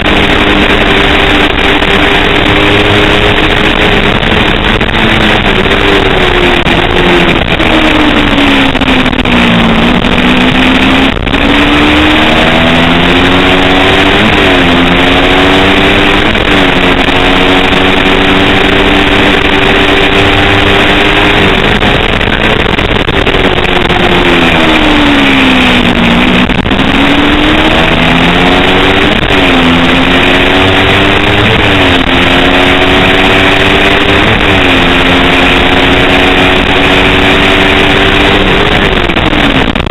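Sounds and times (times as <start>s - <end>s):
motorcycle race engine at high revs: 0.0s - 39.9s
wind rush: 0.0s - 39.9s.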